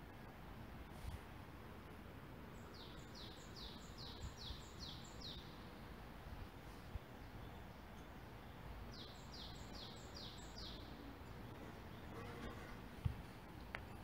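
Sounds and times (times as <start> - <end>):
songbird singing: 2.3 - 14.0.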